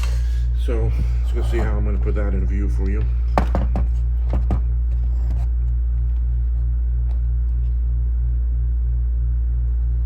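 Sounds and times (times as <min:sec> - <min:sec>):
low throbbing hum: 0:00.0 - 0:10.0.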